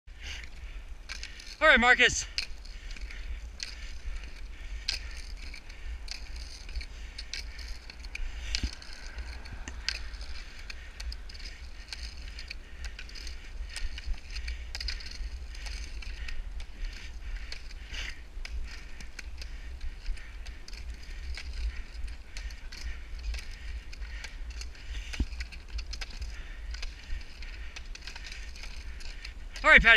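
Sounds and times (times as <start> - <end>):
roller skis rolling on asphalt: 0.1 - 29.9
ski-pole tips clicking on pavement: 0.1 - 29.9.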